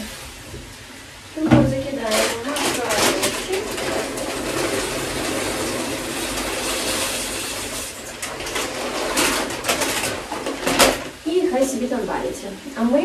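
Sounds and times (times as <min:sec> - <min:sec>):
pasta boiling in a pot: 0:00.0 - 0:13.0.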